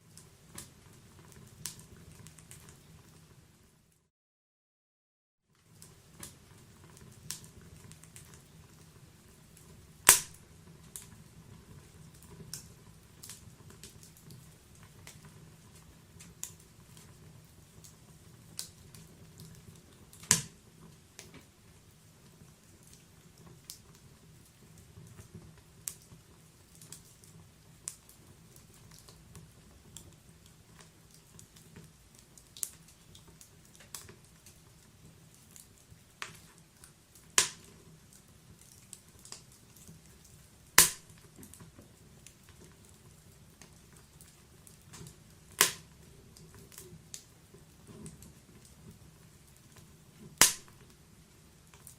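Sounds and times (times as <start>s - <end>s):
low rumble of flame: 0.0s - 4.0s, 5.6s - 51.9s
fire crackling and popping: 0.0s - 4.1s, 5.5s - 51.9s.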